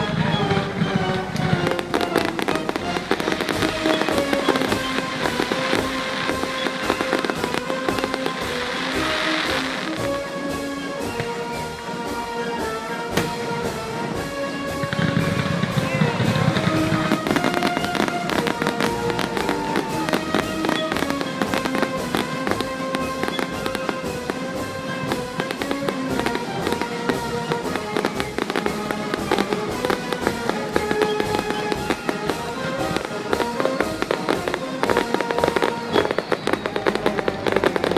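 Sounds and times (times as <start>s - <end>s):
fireworks bangs and crackles: 0.0s - 37.9s
music: 0.0s - 37.9s.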